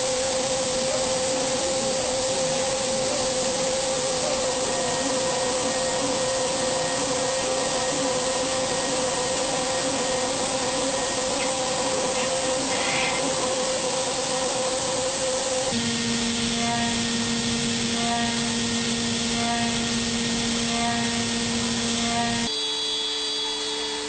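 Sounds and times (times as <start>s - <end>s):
machine hiss: 0.0s - 24.0s
machine whine: 0.0s - 24.0s.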